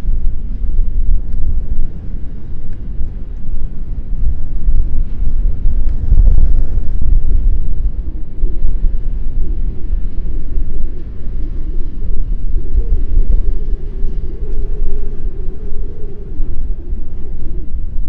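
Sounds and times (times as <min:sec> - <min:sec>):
faint steady tone: 0:00.0 - 0:18.0
wind buffeting microphone: 0:00.0 - 0:18.0.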